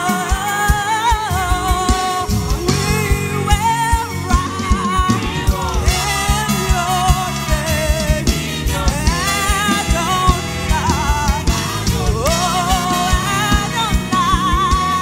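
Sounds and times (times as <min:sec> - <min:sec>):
gospel band playing: 0:00.0 - 0:15.0
steady drum beat: 0:00.0 - 0:15.0
woman singing lead: 0:00.0 - 0:15.0.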